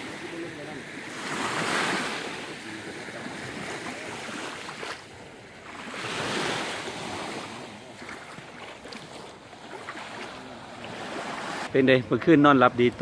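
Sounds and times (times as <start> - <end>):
sea waves washing onto shore: 0.0 - 11.8.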